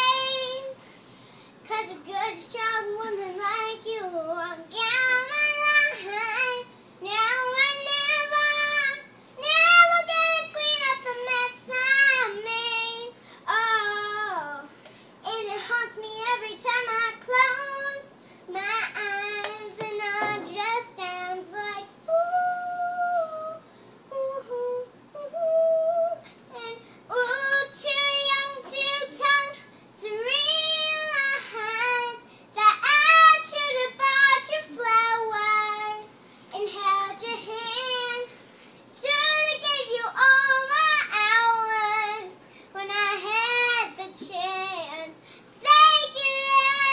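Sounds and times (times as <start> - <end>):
girl singing unaccompanied: 0.0 - 46.9.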